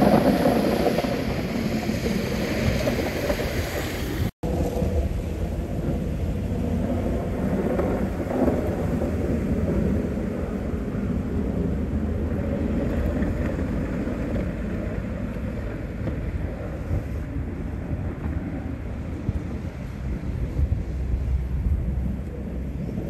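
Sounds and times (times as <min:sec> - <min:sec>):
truck engine rumble: 0:00.0 - 0:23.0
wind rumbling on microphone: 0:00.0 - 0:23.0.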